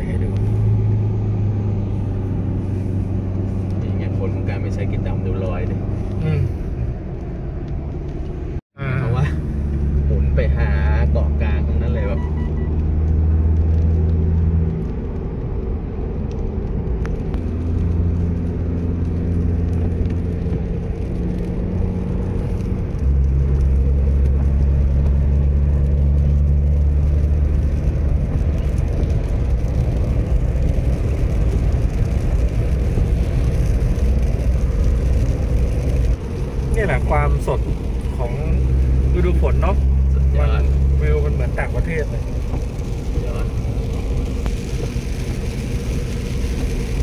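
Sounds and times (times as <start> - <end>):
car engine running: 0.0 - 47.0
tyre and road noise: 0.0 - 47.0.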